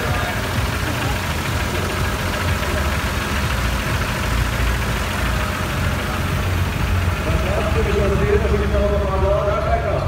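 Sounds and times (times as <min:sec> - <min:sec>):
off-road vehicle engines idling: 0:00.0 - 0:10.0.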